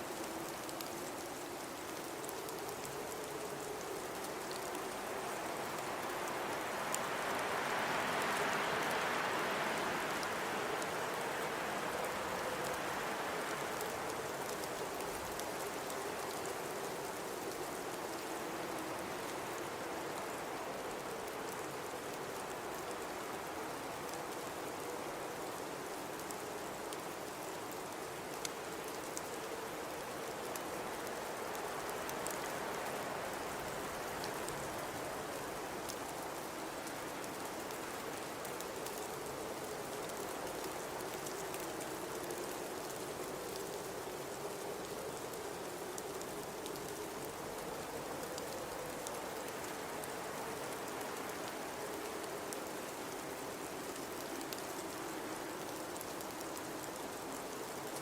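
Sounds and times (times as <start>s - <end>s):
faint ticks: 9.7s - 58.0s.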